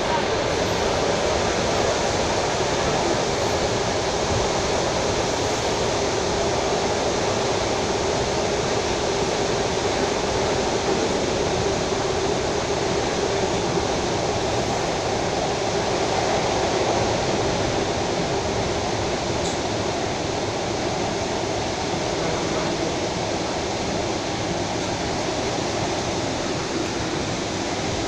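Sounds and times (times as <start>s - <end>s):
electric train running: 0.0s - 28.0s.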